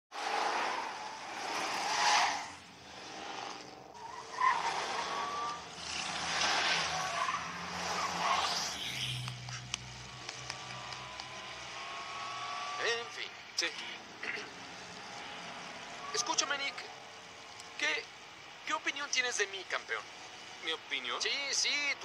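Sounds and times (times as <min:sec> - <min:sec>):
tyres skidding and squealing: 0:00.1 - 0:22.0
car engine running hard: 0:00.2 - 0:22.0.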